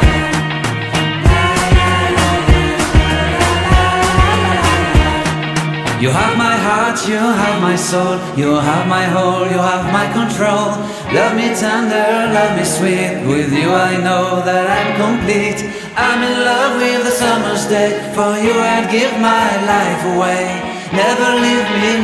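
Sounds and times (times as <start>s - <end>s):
pop song with singer: 0.0s - 22.0s.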